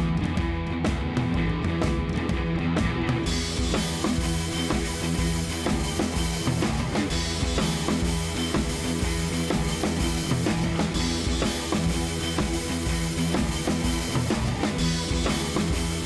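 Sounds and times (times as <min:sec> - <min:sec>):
drum kit beat: 0:00.0 - 0:16.0
rock music: 0:00.0 - 0:16.0.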